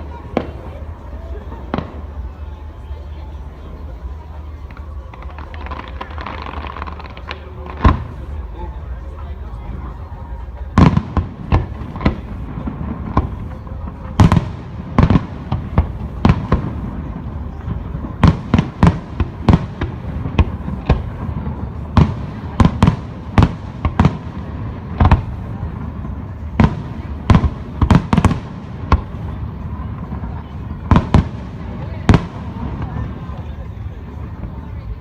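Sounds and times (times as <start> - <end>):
background noise: 0.0 - 35.0
fireworks bursting with bangs: 0.0 - 35.0.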